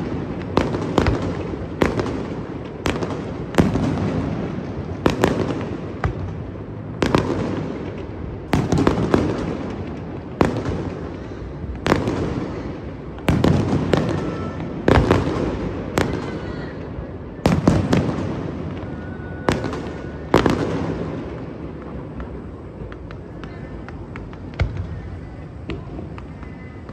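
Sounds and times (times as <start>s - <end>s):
fireworks bangs echoing: 0.0s - 26.9s.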